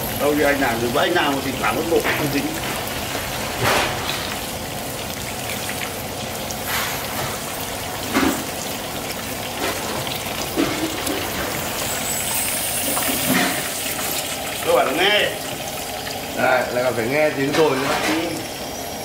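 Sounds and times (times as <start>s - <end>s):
meatballs sizzling on a grill: 0.0s - 19.0s.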